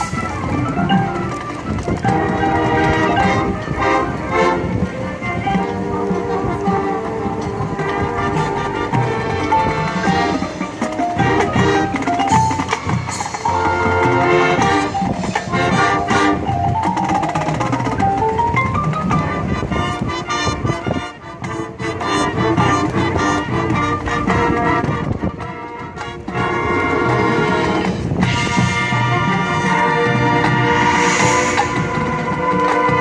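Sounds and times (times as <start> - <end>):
marching band playing: 0.0 - 33.0.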